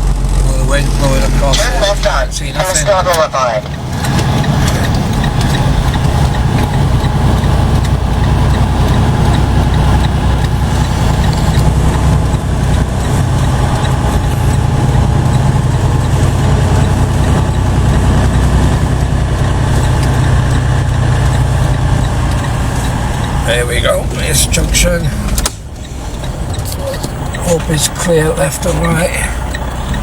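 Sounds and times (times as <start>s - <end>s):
road noise: 0.0s - 30.0s
truck diesel engine rumbling: 0.0s - 30.0s.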